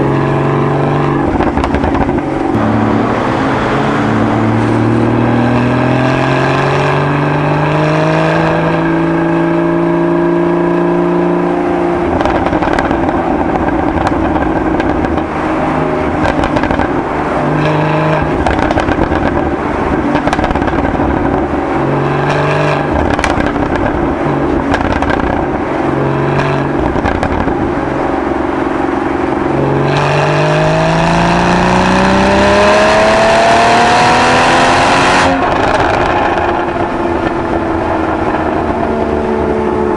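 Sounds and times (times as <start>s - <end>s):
car exhaust with crackles: 0.0s - 39.9s
engine revving: 0.0s - 39.9s.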